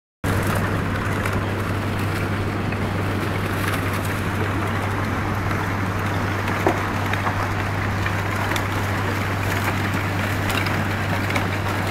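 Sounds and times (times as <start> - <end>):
boat engine humming: 0.2 - 11.9.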